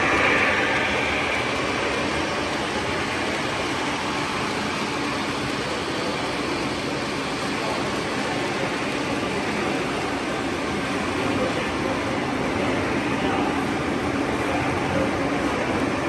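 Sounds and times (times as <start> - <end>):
model train wheels rolling: 0.0 - 16.0.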